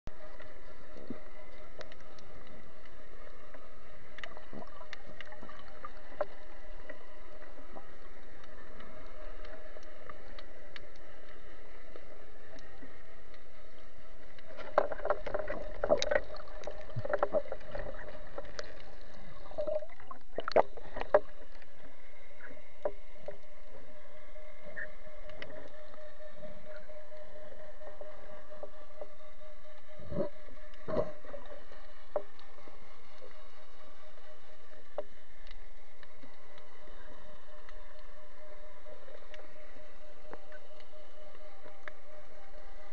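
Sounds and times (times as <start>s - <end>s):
faint hum: 0.0s - 42.9s.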